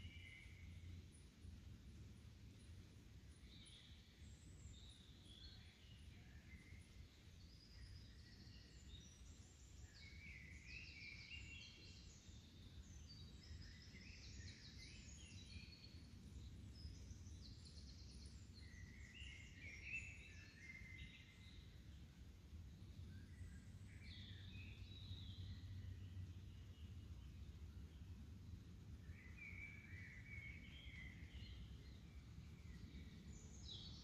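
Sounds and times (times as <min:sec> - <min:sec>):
songbirds chirping and singing: 0:00.0 - 0:01.7, 0:02.5 - 0:34.0.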